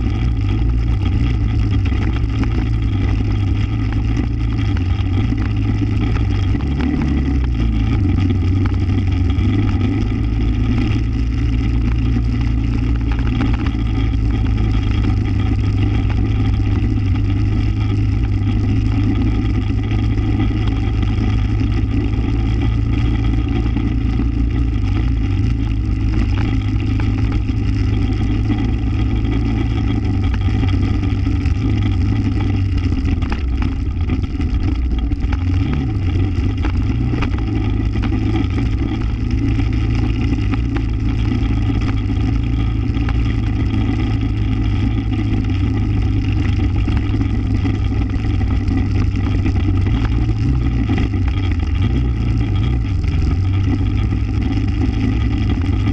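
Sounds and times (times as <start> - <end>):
off-road vehicle engine droning: 0.0 - 55.9.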